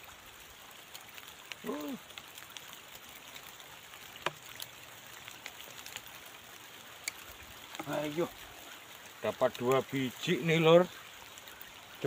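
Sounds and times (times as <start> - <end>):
light drizzle hissing: 0.0 - 12.0.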